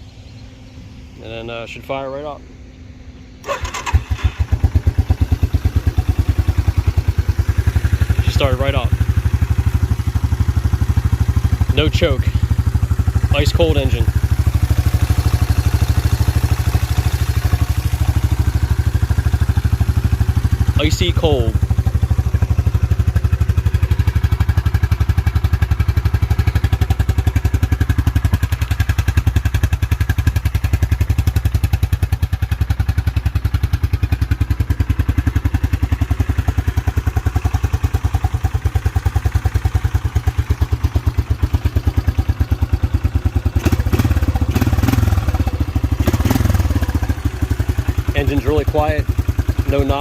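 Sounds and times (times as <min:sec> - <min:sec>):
engine idling: 0:00.0 - 0:50.0.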